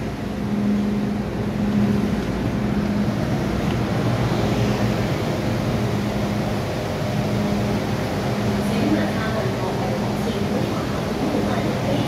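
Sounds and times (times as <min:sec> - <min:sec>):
electric train humming and rumbling: 0:00.0 - 0:12.0.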